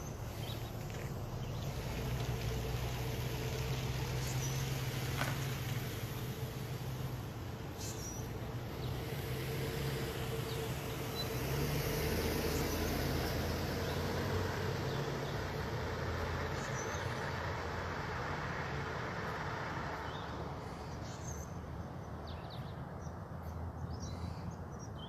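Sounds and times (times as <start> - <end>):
vehicle engine humming: 0.0 - 21.7.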